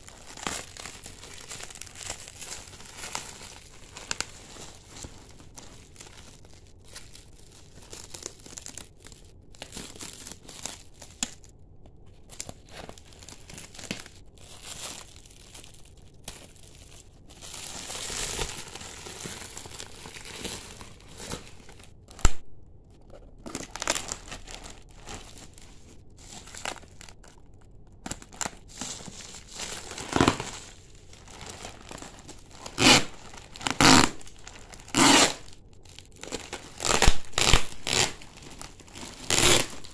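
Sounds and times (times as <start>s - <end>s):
plastic wrapping crinkling: 0.0s - 39.9s.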